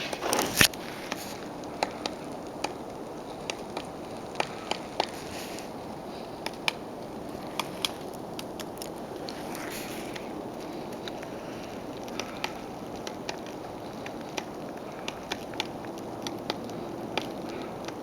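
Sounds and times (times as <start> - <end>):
steady background noise: 0.0 - 18.0
woodpecker tapping on wood: 0.1 - 18.0.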